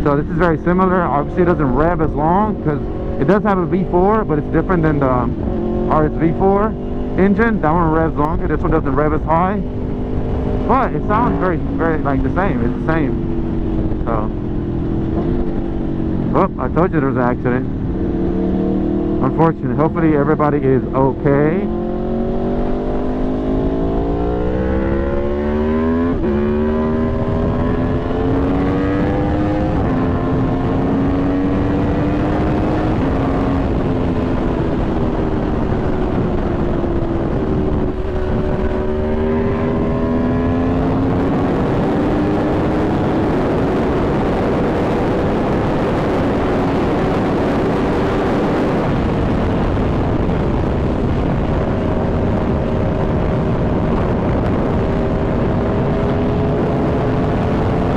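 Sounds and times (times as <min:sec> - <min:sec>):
motorcycle engine accelerating: 0:00.0 - 0:57.9
wind rush: 0:00.0 - 0:57.9.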